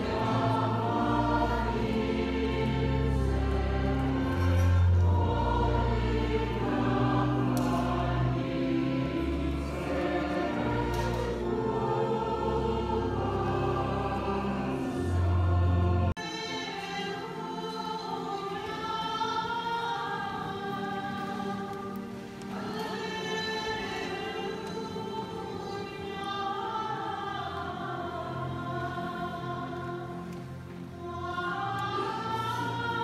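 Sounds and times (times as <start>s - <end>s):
choir singing a hymn: 0.0s - 33.0s.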